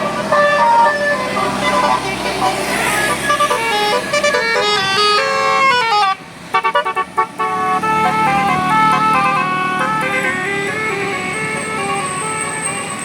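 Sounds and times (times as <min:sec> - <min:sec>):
multi-tone musical air horn: 0:00.0 - 0:13.0.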